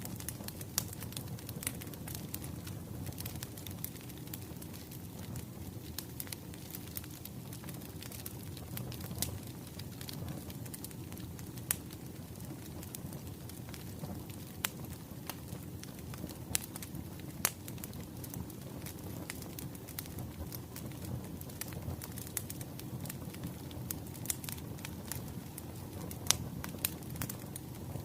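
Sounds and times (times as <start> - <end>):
firewood burning and crackling: 0.0 - 28.0.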